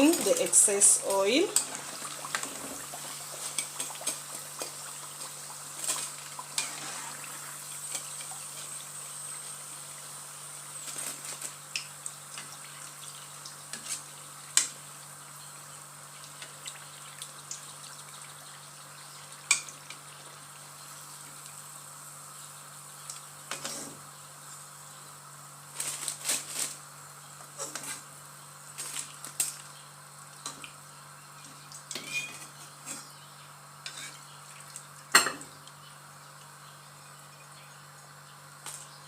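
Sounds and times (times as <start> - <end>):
food sizzling in hot oil: 0.0 - 36.6.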